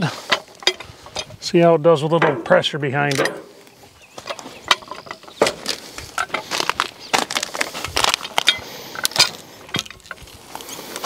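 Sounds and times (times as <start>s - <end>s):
log shifting on steel bed: 0.0s - 11.0s.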